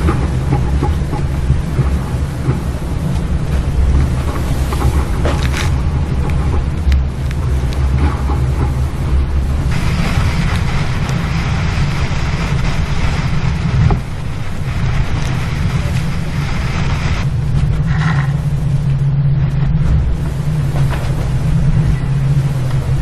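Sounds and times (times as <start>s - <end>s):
steady low hum: 0.0s - 23.0s
water rushing: 0.0s - 23.0s
wind on microphone: 0.0s - 23.0s.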